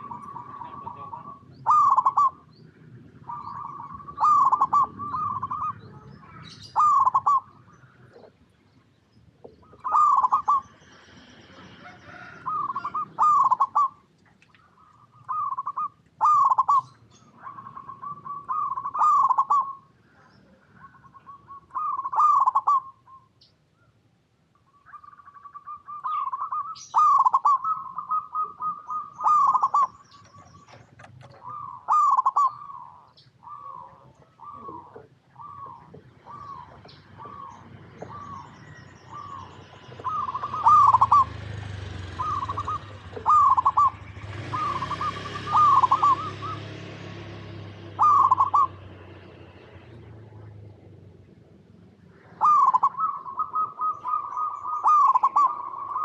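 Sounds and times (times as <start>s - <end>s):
dove cooing: 0.0s - 8.5s, 9.3s - 23.3s, 24.8s - 56.0s.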